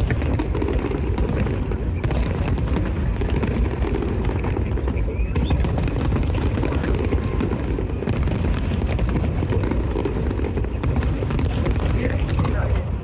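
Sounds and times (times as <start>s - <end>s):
fireworks booming: 0.0s - 13.0s
fireworks popping and crackling: 0.0s - 13.0s.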